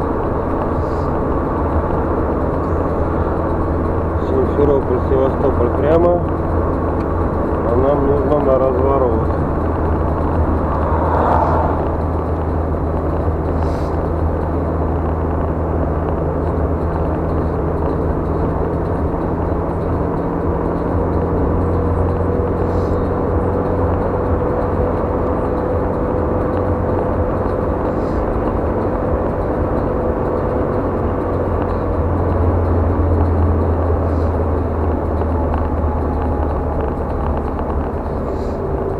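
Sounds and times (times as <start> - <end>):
car road noise from inside: 0.0 - 38.9.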